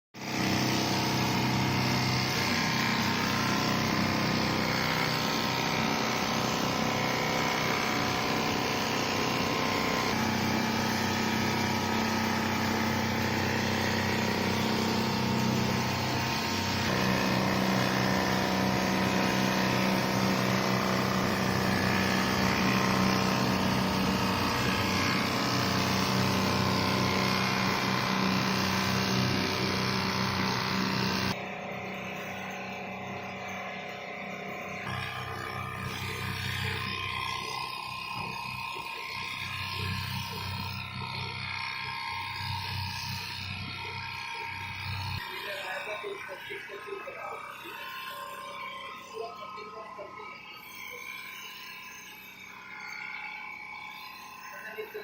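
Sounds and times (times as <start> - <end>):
quilting sewing machine running: 0.2 - 31.4, 34.9 - 48.7.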